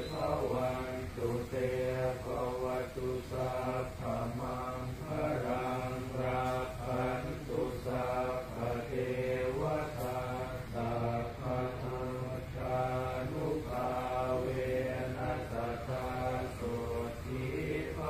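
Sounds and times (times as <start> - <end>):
monk chanting prayers: 0.0 - 18.0.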